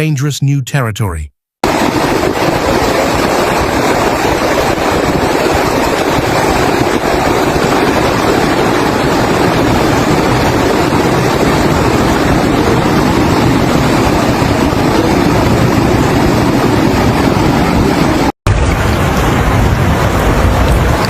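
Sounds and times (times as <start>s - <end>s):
floodwater rushing: 1.6s - 21.0s.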